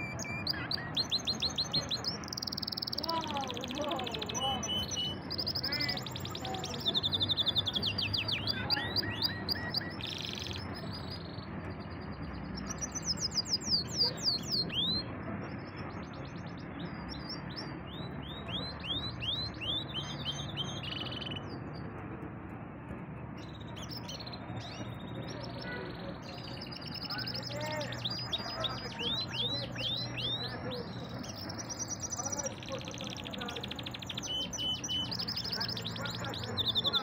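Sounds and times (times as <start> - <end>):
canary singing: 0.0 - 37.0.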